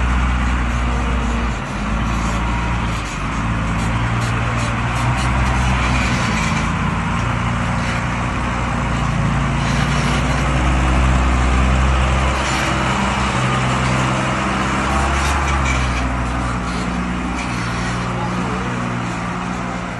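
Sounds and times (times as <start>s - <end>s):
road and wind noise hiss: 0.0s - 19.9s
vehicle engine rumbling: 0.0s - 19.9s.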